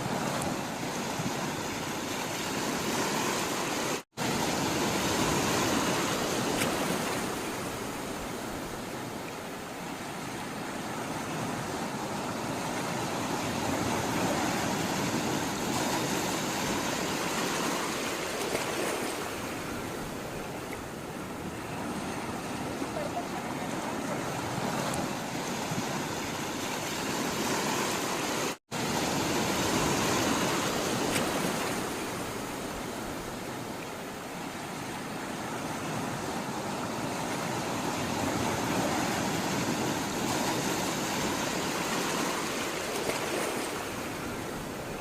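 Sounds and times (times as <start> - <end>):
sea water rushing: 0.0 - 45.0.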